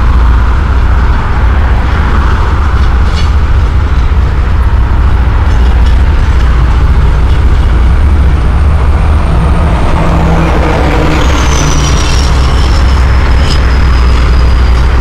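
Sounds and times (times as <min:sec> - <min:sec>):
cement mixer truck passing: 0:00.0 - 0:15.0
freight train rumbling: 0:00.0 - 0:15.0
road traffic: 0:00.0 - 0:15.0
thin high whine: 0:00.0 - 0:15.0.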